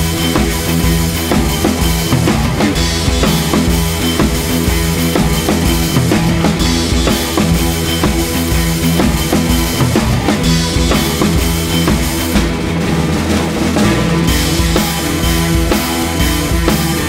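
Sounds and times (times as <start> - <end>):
bass and chords: 0.0 - 17.0
drum kit beat: 0.0 - 17.0.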